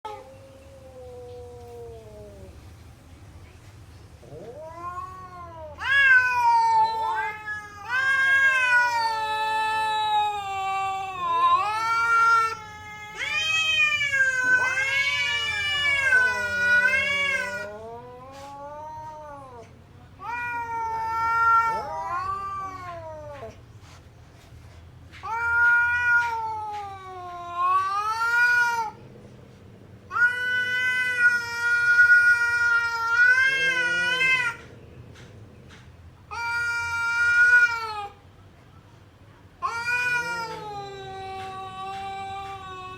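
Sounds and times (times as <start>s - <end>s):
cats caterwauling: 0.0s - 2.7s, 4.2s - 23.7s, 25.1s - 38.3s, 39.6s - 42.9s.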